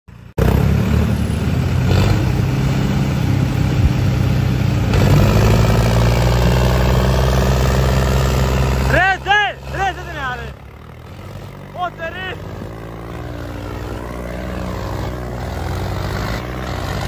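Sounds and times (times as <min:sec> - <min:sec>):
tractor diesel engines labouring: 0:00.1 - 0:17.0.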